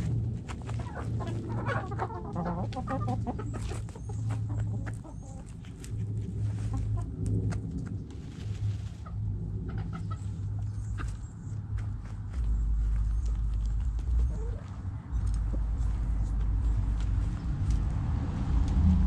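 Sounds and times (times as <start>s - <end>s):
hens clucking: 0.0s - 17.8s
scratching and pecking in dirt: 0.0s - 19.0s.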